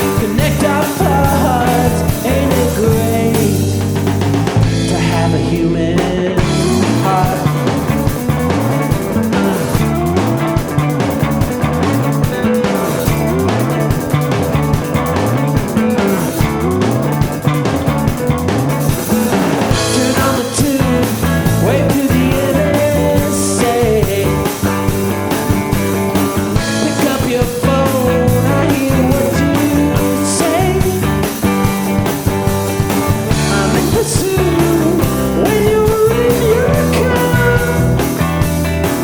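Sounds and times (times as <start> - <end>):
bending guitar lead line: 0.0 - 39.0
rock band playing live: 0.0 - 39.0.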